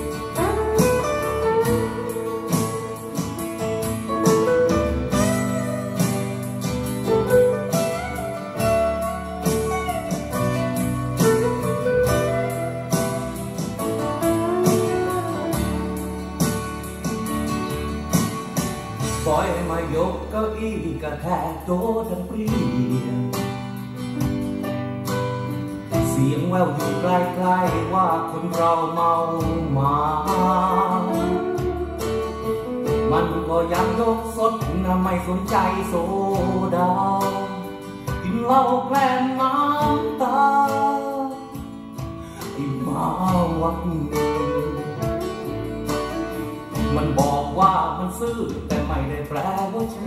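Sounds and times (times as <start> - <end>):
plucked guitar: 0.0 - 50.0
song from vinyl record: 0.0 - 50.0.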